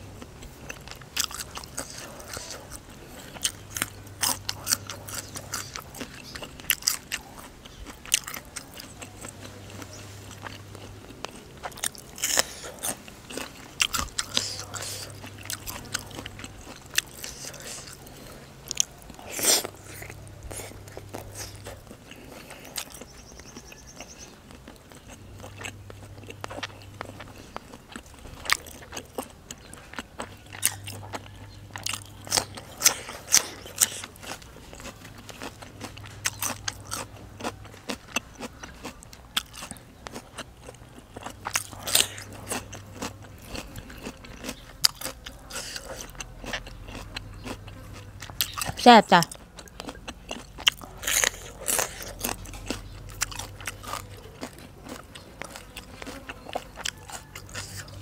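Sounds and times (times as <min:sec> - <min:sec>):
raw vegetable crunches: 0:00.0 - 0:58.0
wet chewing: 0:00.0 - 0:58.0.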